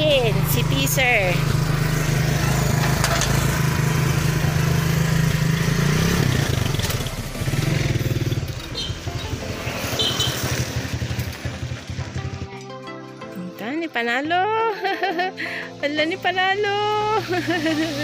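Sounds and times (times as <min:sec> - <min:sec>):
motorcycle engine idling and revving: 0:00.0 - 0:12.6, 0:14.2 - 0:18.0.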